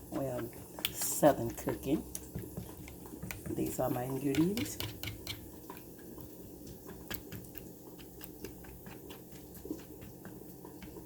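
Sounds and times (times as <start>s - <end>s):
food crackling and popping: 0.0s - 11.0s.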